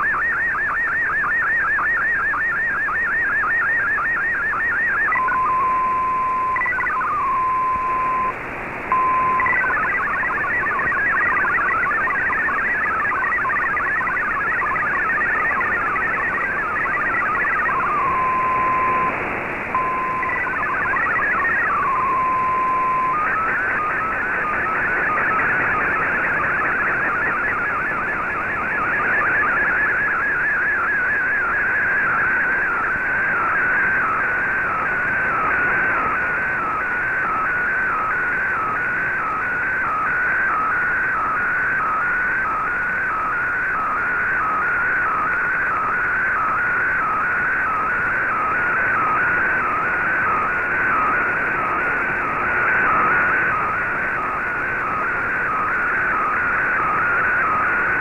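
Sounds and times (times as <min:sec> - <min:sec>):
rapidly hopping data tones: 0:00.0 - 0:58.0
steady radio tone: 0:00.0 - 0:58.0
wavering image transmission tone: 0:00.0 - 0:58.0
radio hiss: 0:02.2 - 0:58.0.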